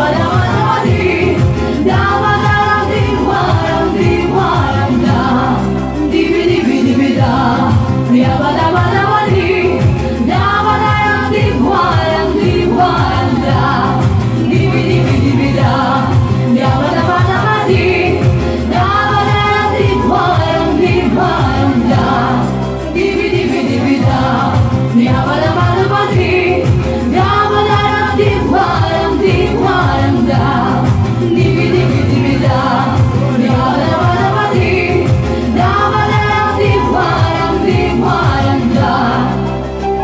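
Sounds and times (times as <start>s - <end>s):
accompanying music track: 0.0s - 40.0s
person singing: 0.0s - 40.0s.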